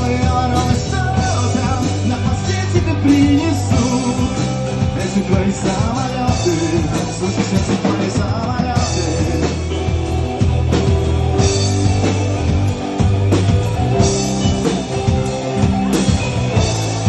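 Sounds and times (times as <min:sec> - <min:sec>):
bass and guitar: 0:00.0 - 0:17.0
drum kit beat: 0:00.0 - 0:17.0.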